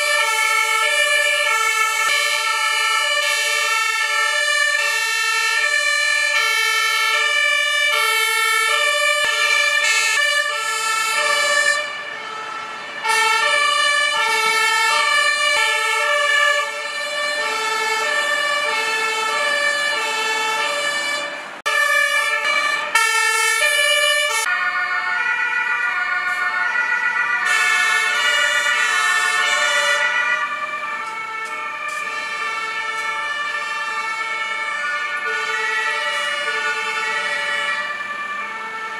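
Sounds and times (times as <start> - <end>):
two-tone emergency sirens: 0.0 - 38.9.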